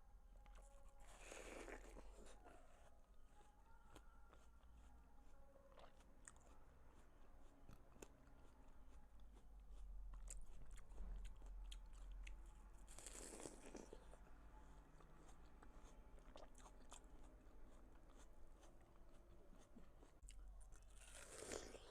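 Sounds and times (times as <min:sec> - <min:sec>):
chewing watermelon: 0:00.4 - 0:21.9.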